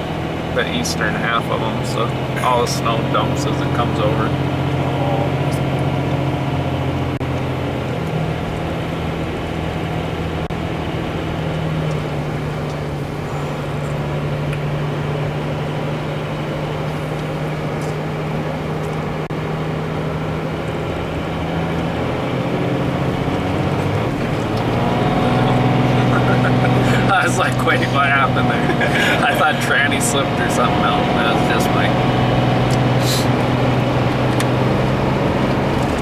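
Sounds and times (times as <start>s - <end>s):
truck engine and tyre drone: 0.0s - 36.0s.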